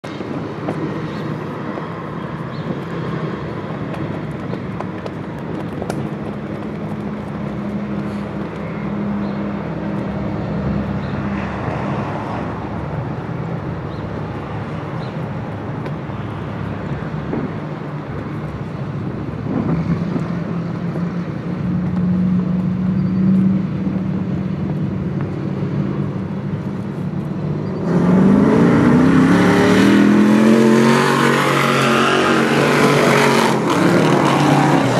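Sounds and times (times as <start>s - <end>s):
race car engines: 0.0s - 34.9s.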